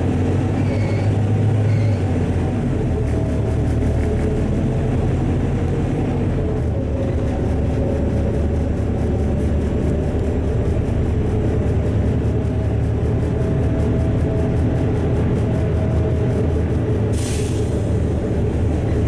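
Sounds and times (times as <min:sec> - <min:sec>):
bus diesel engine drone: 0:00.0 - 0:19.0
road noise: 0:00.0 - 0:19.0.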